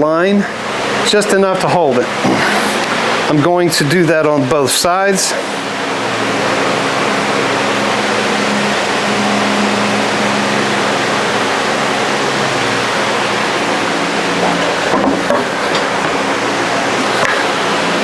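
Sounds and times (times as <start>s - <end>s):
motor hum: 0.5s - 18.0s.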